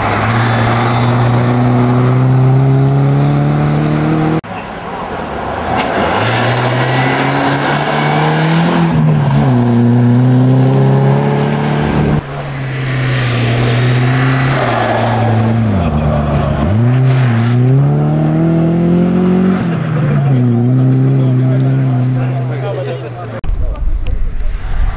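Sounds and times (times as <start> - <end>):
rally car engine revving: 0.0 - 4.4, 5.7 - 23.4.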